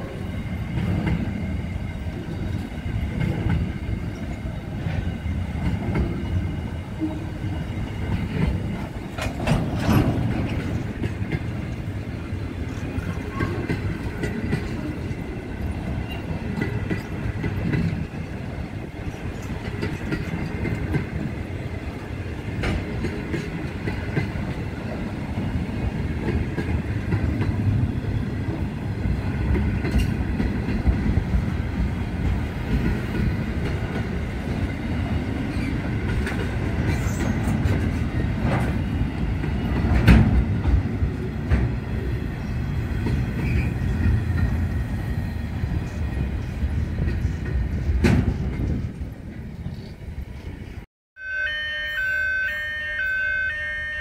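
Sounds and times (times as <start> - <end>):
rail joint clicks: 0.0 - 50.8
train wheels rumbling on rails: 0.0 - 50.9.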